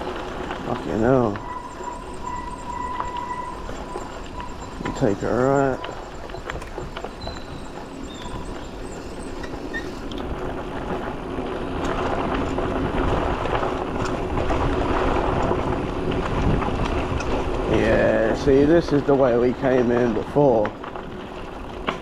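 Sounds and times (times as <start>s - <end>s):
bike tyres rolling over trail: 0.0s - 22.0s
wind buffeting microphone: 0.0s - 22.0s.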